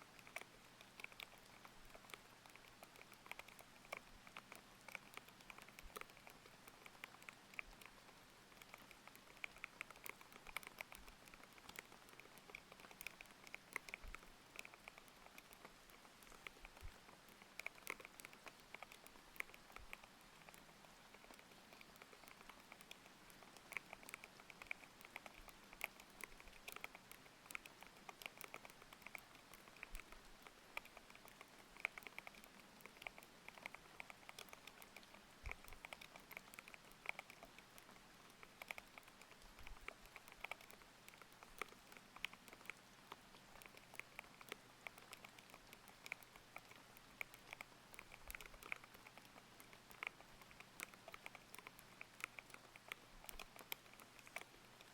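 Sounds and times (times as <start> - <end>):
typing on mechanical keyboard: 0.1 - 54.9.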